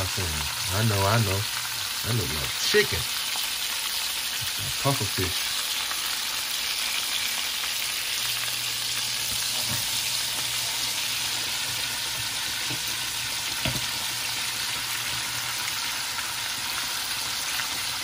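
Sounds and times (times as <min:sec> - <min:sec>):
fish deep-frying in oil: 0:00.0 - 0:18.0.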